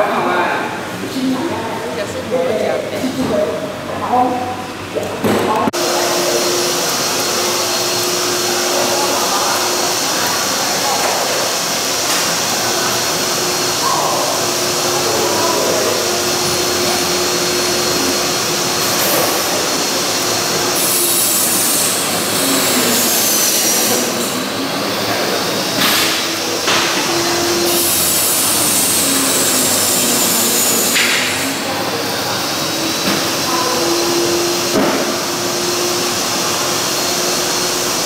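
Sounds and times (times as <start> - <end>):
loud machine whir: 0.0 - 38.0.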